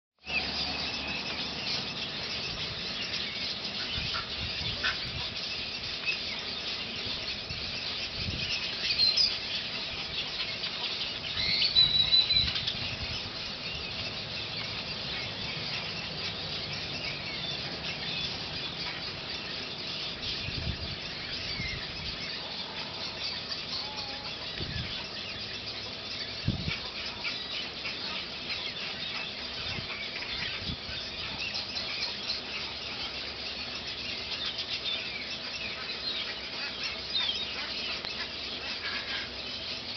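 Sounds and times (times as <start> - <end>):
birds chattering: 0.2 - 39.9
birds squealing: 0.2 - 39.9.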